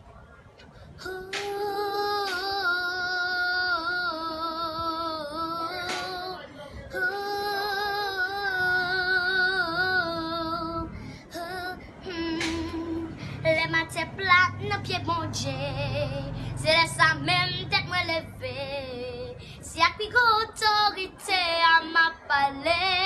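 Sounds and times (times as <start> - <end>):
girl singing with vibrato: 1.0 - 23.0.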